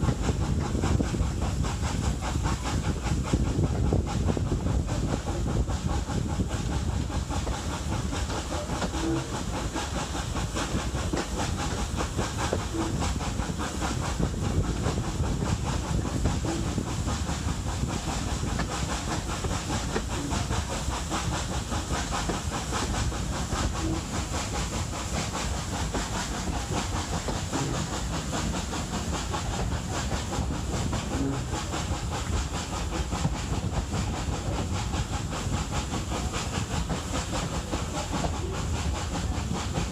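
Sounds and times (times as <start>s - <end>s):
steam hissing: 0.0s - 39.9s
steam locomotive exhaust chuffs: 0.0s - 39.9s.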